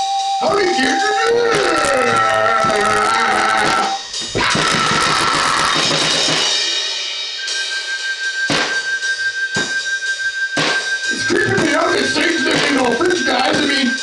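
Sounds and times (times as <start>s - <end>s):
drum kit played hard: 0.0s - 14.0s.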